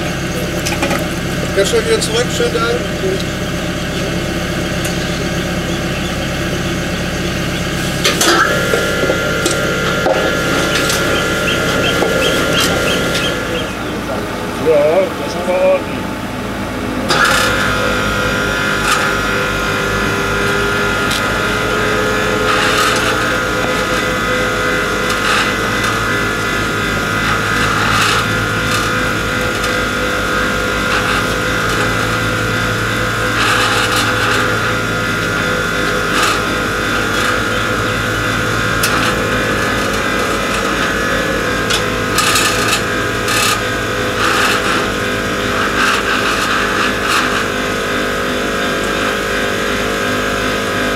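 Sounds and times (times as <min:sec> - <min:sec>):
crane mechanical hum: 0:00.0 - 0:50.9.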